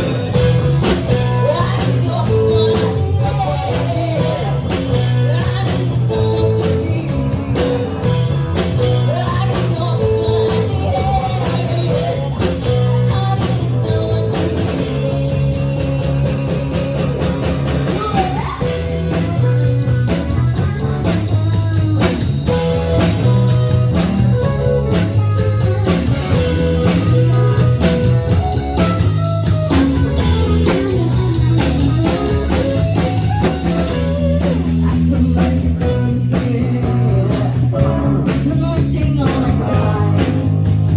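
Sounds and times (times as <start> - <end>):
heavy bass line: 0.0 - 40.9
rock song with singing: 0.0 - 40.9.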